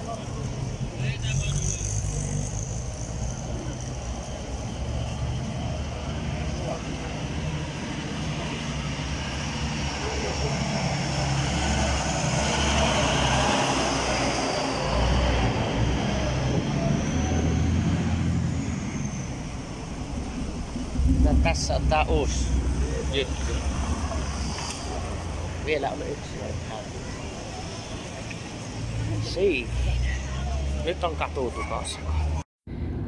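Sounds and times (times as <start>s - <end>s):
road traffic noise: 0.0s - 33.0s
vehicle engine rumble: 0.0s - 33.0s.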